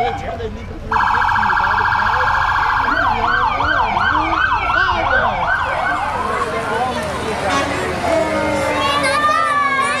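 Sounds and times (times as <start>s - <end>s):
police siren warble and yelp: 0.9s - 7.1s, 8.0s - 10.0s.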